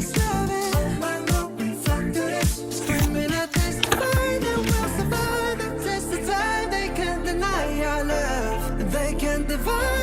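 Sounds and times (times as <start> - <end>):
pop song with sung vocals: 0.0 - 10.0.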